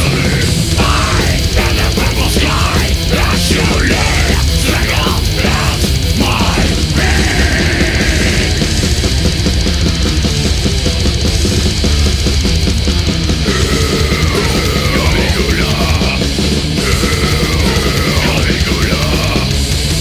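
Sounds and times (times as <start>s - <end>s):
death metal music: 0.0s - 20.0s.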